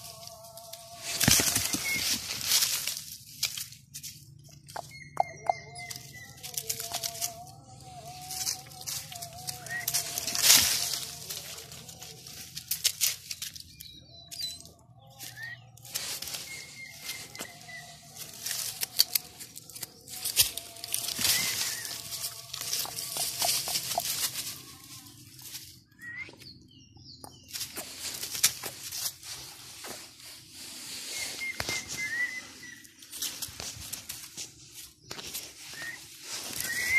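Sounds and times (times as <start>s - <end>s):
rustling in dry leaves: 0.0s - 26.3s, 27.4s - 36.9s.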